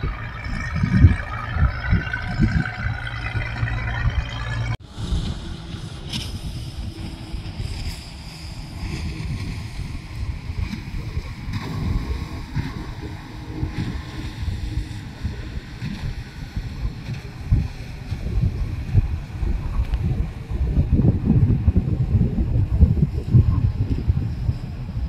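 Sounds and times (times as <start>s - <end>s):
faint boat engine: 0.0s - 25.0s
wind buffeting microphone: 0.0s - 25.0s.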